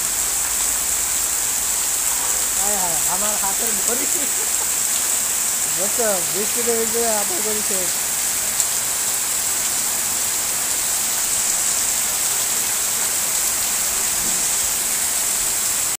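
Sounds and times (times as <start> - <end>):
heavy rain falling: 0.0 - 16.0
water running off a roof: 0.0 - 16.0.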